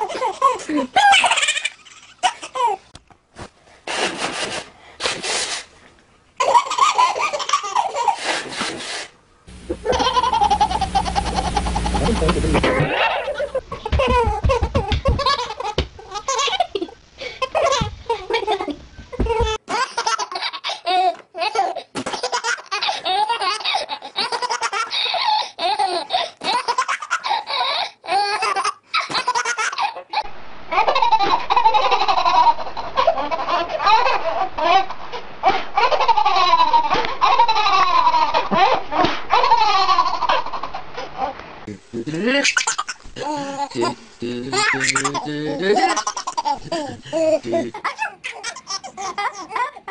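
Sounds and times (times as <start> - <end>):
babies laughing: 0.0 - 2.9, 6.4 - 8.4, 9.5 - 41.4, 42.2 - 49.9.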